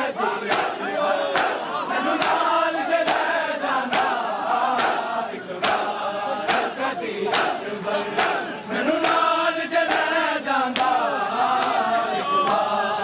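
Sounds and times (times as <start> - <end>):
men chanting in unison: 0.0 - 13.0
hands slapping bare chests: 0.5 - 1.6, 2.2 - 11.0, 11.6 - 12.7.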